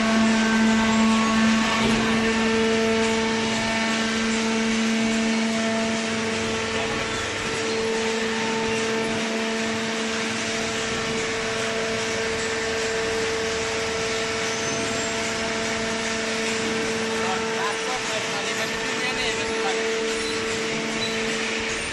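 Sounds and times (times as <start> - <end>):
hydraulic baler pump humming: 0.0 - 21.9.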